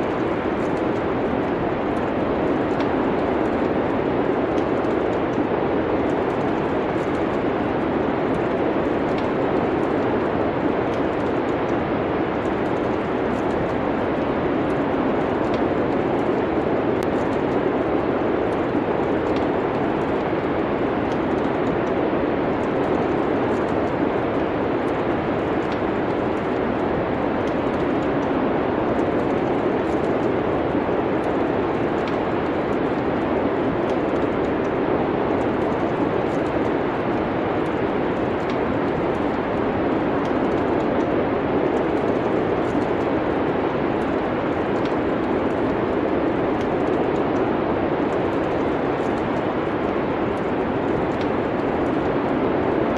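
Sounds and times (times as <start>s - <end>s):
rush of wind-like noise: 0.0s - 52.9s
wood fire crackling: 0.0s - 52.9s.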